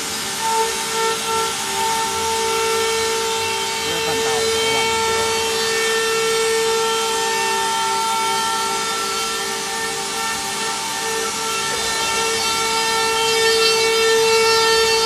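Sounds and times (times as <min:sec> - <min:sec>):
hiss of cutting: 0:00.0 - 0:15.0
router spindle whine: 0:00.0 - 0:15.0.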